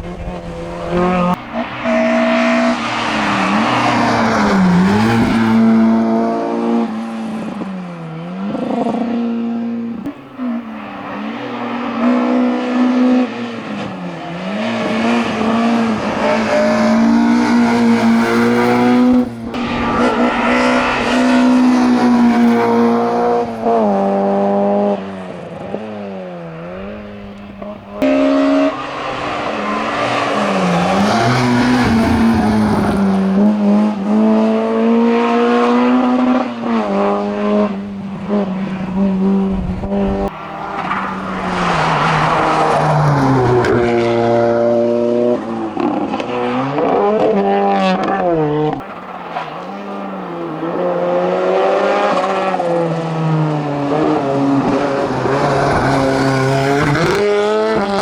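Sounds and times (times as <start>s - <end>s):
racing car engine revving: 0.0s - 58.0s.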